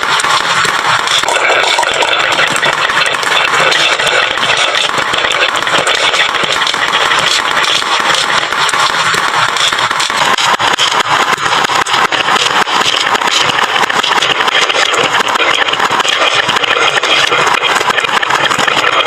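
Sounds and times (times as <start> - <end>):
marbles rattling down wooden run: 0.0 - 19.0.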